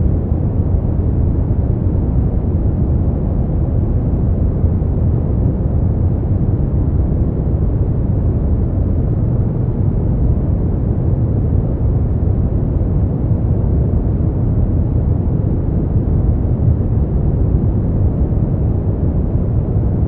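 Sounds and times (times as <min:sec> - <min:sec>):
deep rumbling brown noise: 0:00.0 - 0:20.0.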